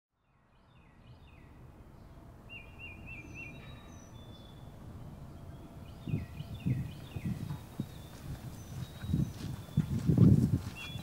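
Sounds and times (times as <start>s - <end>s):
bird trills: 0.4s - 9.9s
low steady rumble: 0.5s - 10.8s
songbirds whistling: 0.5s - 11.0s.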